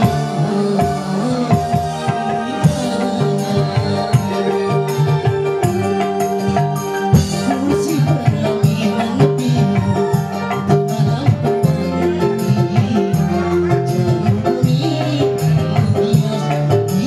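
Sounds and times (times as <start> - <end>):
drum and tambourine beat: 0.0 - 17.0
electronic keyboard chords: 0.0 - 17.0
man singing into a microphone: 0.0 - 17.0.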